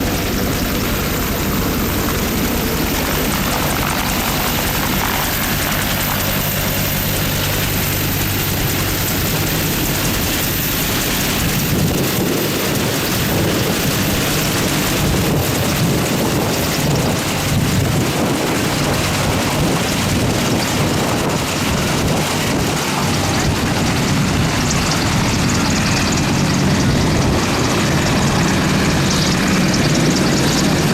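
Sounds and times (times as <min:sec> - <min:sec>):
helicopter engines and rotor: 0:00.0 - 0:30.9
rotor wash buffeting microphone: 0:00.0 - 0:30.9.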